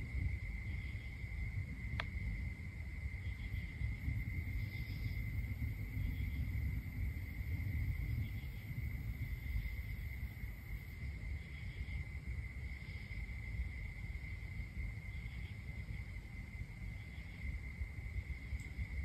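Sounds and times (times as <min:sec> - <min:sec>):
crickets trilling: 0:00.0 - 0:19.0
faint insect calls: 0:00.0 - 0:19.0.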